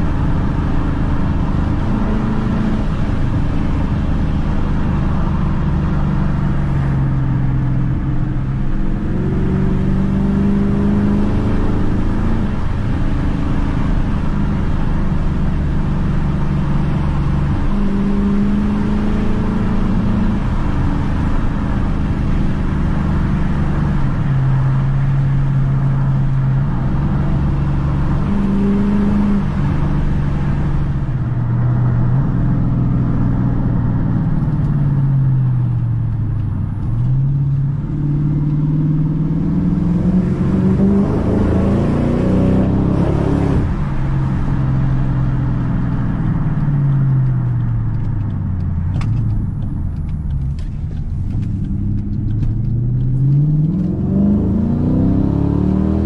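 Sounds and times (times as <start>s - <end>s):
car engine and exhaust: 0.0s - 56.0s.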